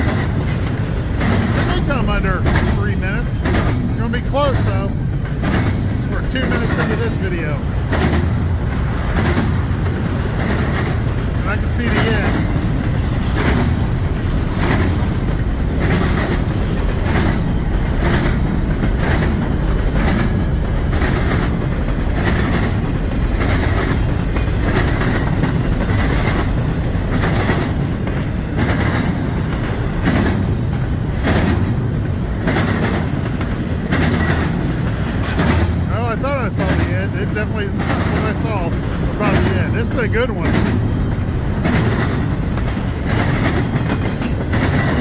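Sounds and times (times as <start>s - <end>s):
freight train rolling past: 0.0s - 45.0s
train wheel clatter: 0.0s - 45.0s.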